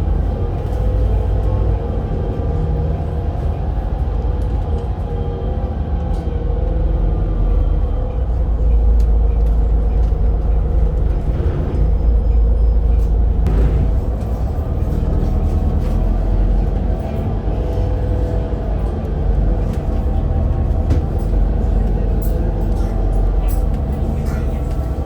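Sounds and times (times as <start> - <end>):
bus diesel engine rumbling: 0.0 - 25.0.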